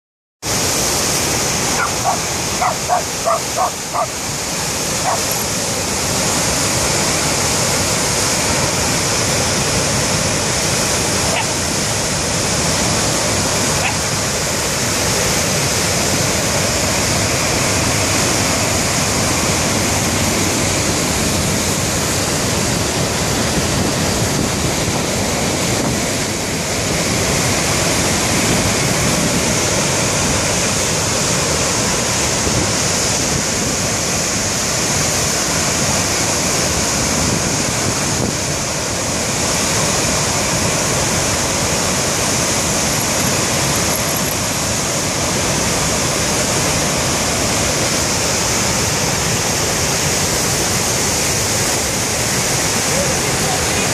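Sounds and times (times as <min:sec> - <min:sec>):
water rushing over a weir: 0:00.4 - 0:53.9.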